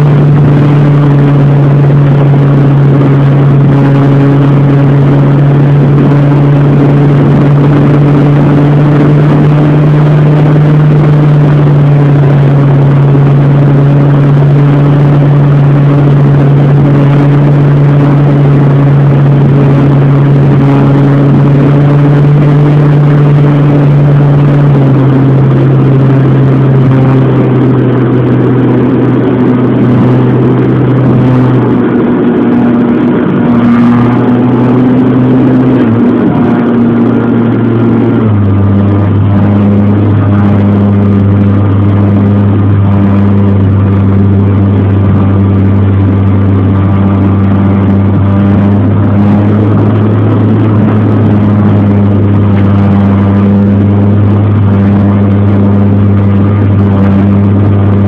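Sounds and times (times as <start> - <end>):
rushing noise: 0.0 - 58.0.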